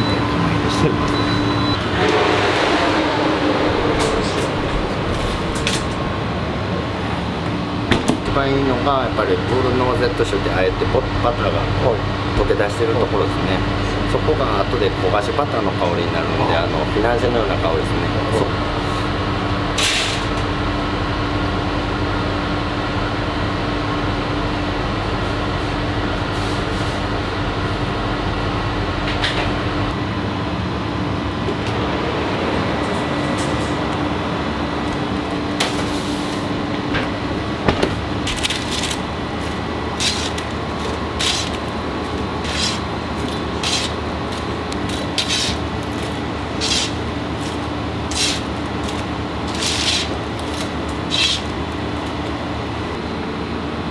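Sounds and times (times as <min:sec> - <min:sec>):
kitchen ventilation hum: 0:00.0 - 0:53.9
oven fans whirring: 0:00.0 - 0:53.9.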